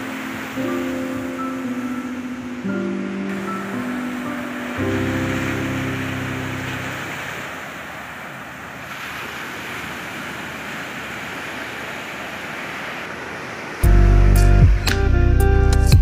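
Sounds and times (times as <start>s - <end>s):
sea waves breaking on beach: 0.0s - 13.8s.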